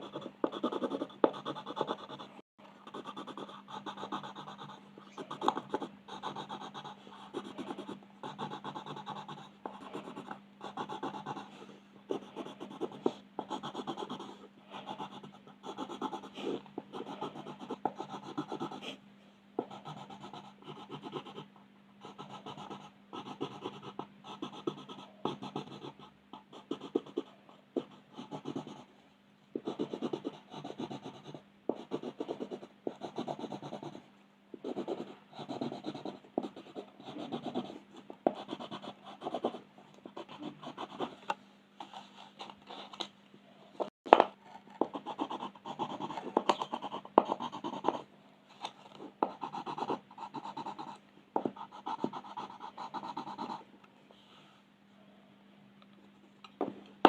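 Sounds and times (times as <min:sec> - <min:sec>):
scratchy coloring strokes on paper: 0:00.0 - 0:19.0, 0:19.6 - 0:28.9, 0:29.6 - 0:34.0, 0:34.6 - 0:41.2, 0:44.4 - 0:48.0, 0:49.2 - 0:53.6
faint steady hum: 0:00.0 - 0:57.0.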